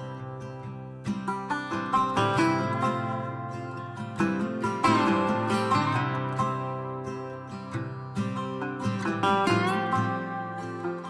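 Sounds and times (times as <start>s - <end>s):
plucked string instrument music: 0.0s - 11.0s.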